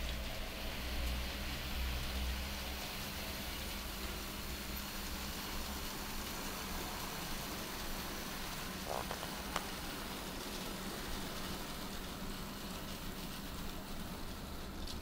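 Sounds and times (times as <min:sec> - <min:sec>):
model train hissing rumble: 0:00.0 - 0:15.0.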